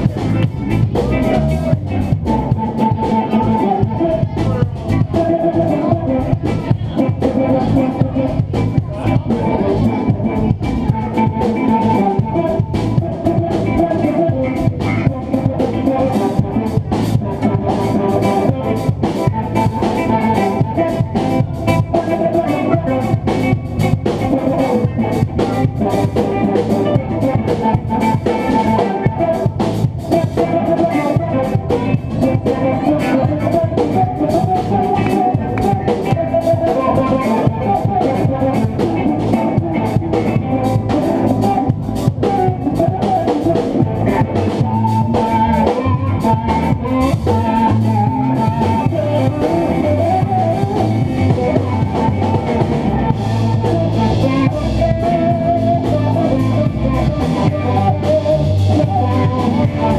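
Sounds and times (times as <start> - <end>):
drum kit beat: 0.0 - 59.9
guitar: 0.0 - 59.9
live band playing: 0.0 - 59.9.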